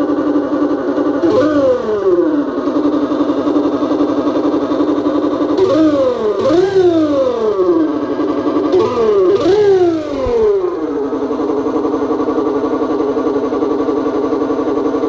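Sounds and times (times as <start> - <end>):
synthesized motorcycle engine: 0.0 - 15.0.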